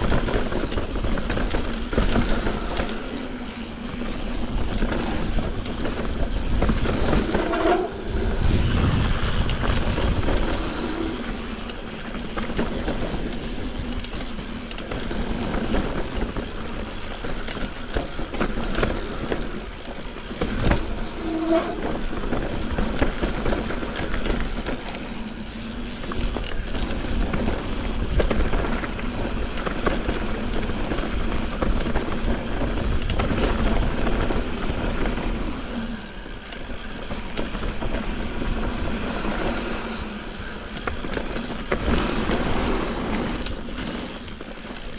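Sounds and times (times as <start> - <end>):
bike clattering over bumps: 0.0 - 44.9
bike tyres rolling over dirt: 0.0 - 44.9.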